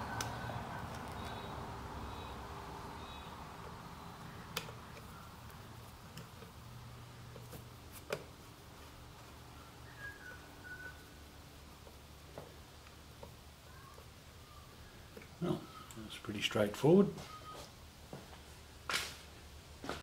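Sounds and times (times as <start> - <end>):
low steady hum: 0.0 - 18.8.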